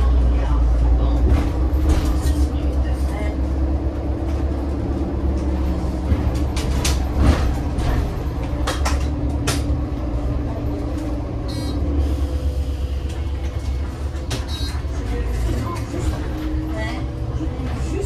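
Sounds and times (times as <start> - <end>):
bus diesel engine hum: 0.0 - 18.0.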